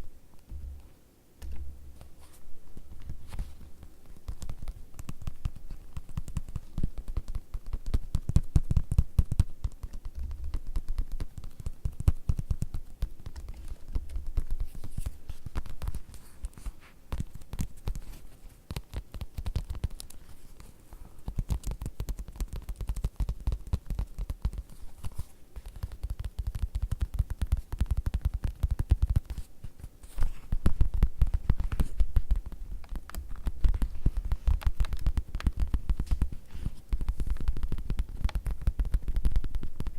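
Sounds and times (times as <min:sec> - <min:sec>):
rapid tapping on leather: 0:01.4 - 0:39.9.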